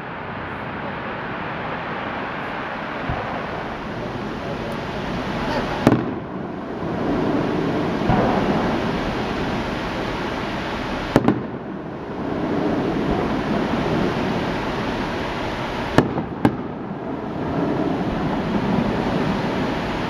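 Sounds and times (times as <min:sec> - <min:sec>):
steady rumble: 0:00.0 - 0:20.0
firework shells bursting: 0:02.3 - 0:19.6.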